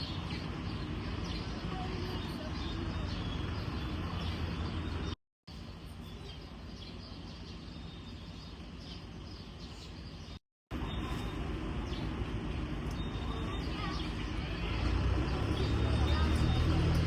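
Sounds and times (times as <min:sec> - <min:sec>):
faint bird chirps: 0:00.0 - 0:14.8.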